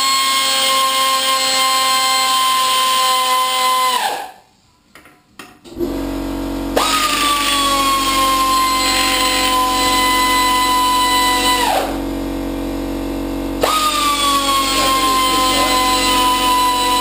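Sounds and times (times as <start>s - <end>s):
power ratchet motor whine: 0.0s - 4.3s, 5.7s - 17.0s.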